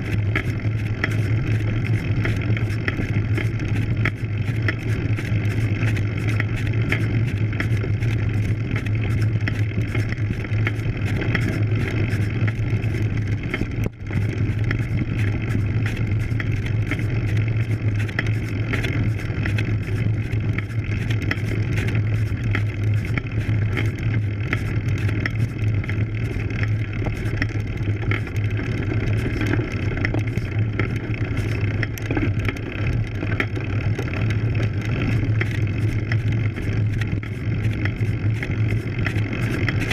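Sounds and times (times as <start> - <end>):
bike tyres rumbling on dirt: 0.0 - 39.9
rapid rattling clicks: 0.0 - 39.9.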